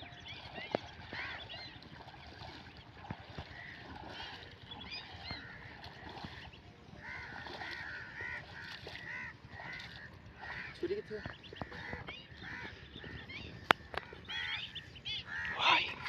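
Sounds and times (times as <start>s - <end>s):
waterfowl calling: 0.0s - 16.0s.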